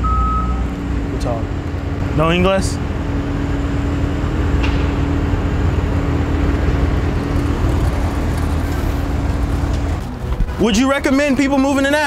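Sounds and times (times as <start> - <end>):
mechanical drone: 0.0 - 10.7.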